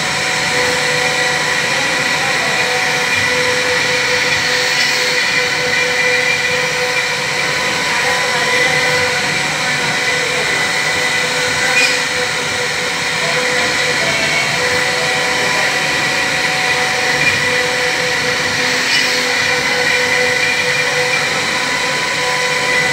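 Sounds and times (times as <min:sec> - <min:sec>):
router bit cutting wood: 0:00.0 - 0:22.9
router spindle high whine: 0:00.0 - 0:22.9.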